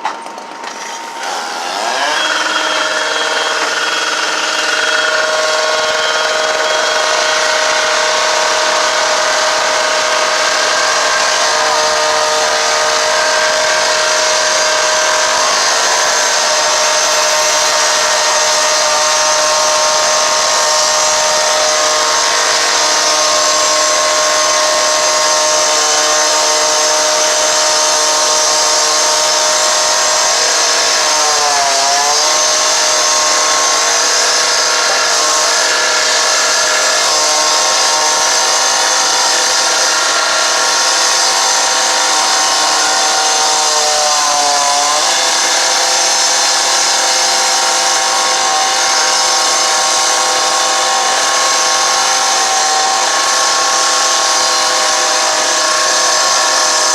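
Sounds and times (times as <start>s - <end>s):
motor running at high speed: 0.0s - 56.9s.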